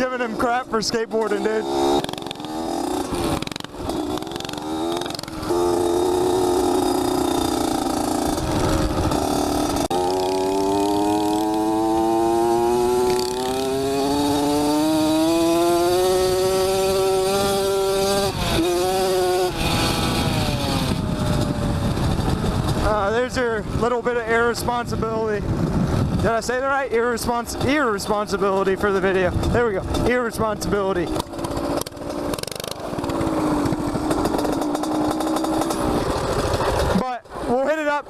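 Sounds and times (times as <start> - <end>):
small motorbike engine revving: 0.0 - 23.1, 28.5 - 37.6.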